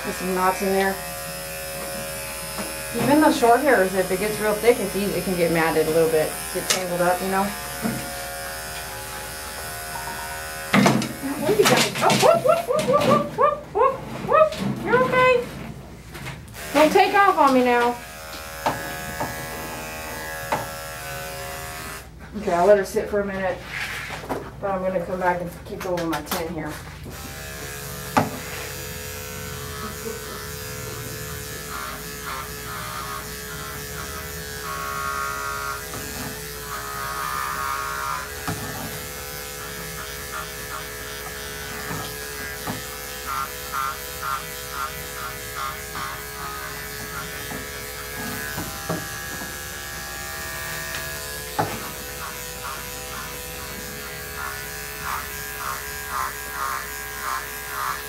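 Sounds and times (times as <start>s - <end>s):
electric clippers humming: 0.0s - 13.6s, 16.5s - 22.2s, 27.0s - 58.0s.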